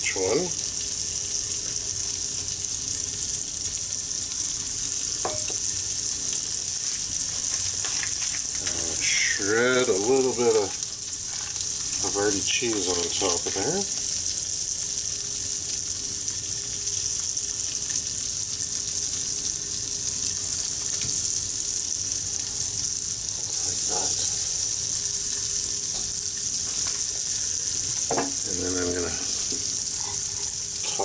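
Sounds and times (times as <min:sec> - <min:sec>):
egg sizzling in frying pan: 0:00.0 - 0:31.0.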